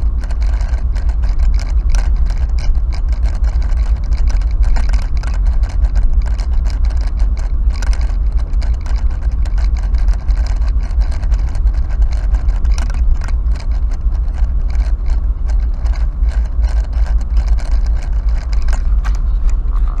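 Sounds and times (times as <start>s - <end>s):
car road and engine rumble: 0.0s - 20.0s
clicks and rattles in car: 0.0s - 20.0s.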